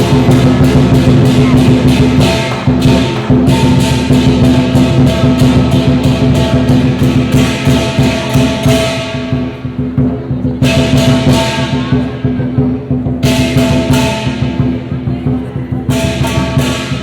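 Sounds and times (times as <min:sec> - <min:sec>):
cymbals clashing: 0:00.0 - 0:17.0
loud drum fast beat: 0:00.0 - 0:17.0.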